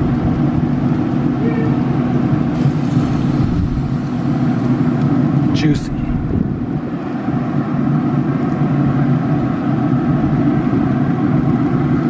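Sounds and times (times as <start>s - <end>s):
grill fan humming: 0.0s - 12.0s.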